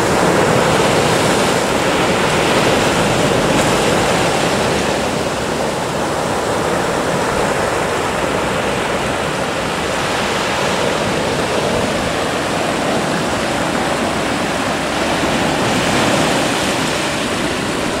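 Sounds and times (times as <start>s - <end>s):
sea waves breaking: 0.0s - 18.0s.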